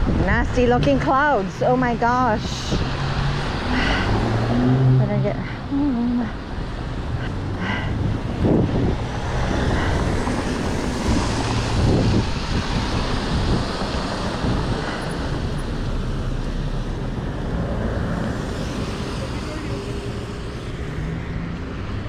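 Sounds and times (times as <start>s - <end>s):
wind rushing on microphone: 0.0s - 5.7s, 6.3s - 22.0s
bicycle road noise: 0.0s - 22.0s
car traffic: 0.0s - 22.0s.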